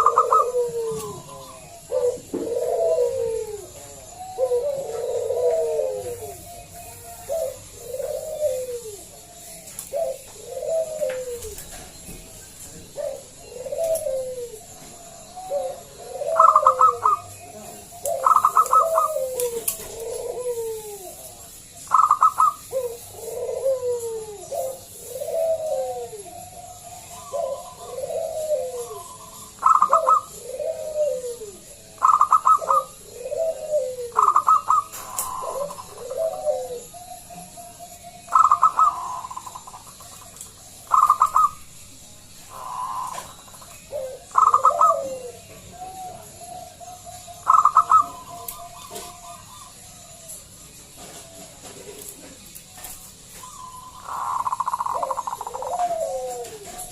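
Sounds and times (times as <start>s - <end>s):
dove cooing song: 0.0s - 56.9s.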